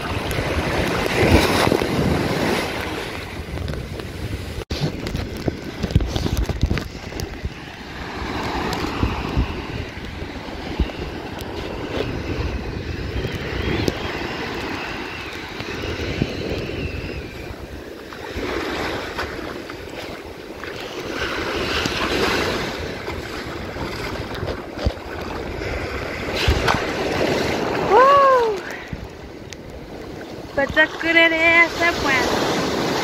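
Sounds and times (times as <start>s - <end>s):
small waves washing on sand: 0.0s - 33.0s
wind buffeting microphone: 0.0s - 33.0s.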